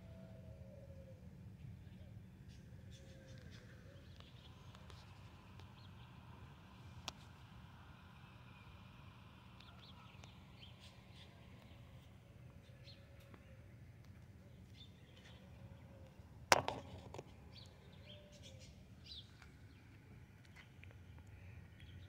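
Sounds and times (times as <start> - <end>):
low steady hum: 0.0 - 22.0
birds chirping faintly: 0.6 - 22.0.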